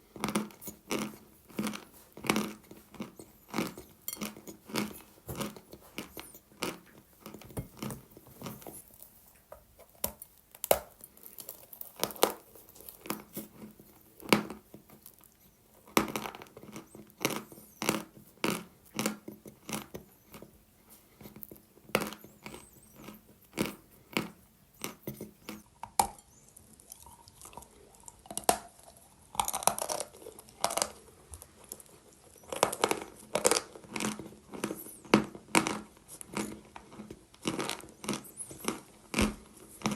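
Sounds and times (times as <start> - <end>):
chalk crunching being chewed: 0.0 - 25.6, 26.6 - 39.9.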